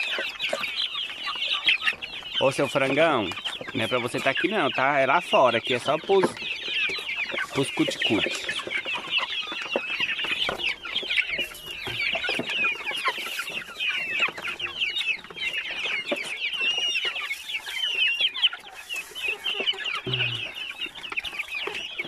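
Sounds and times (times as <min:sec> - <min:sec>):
young chickens cheeping and clucking: 0:00.0 - 0:22.0.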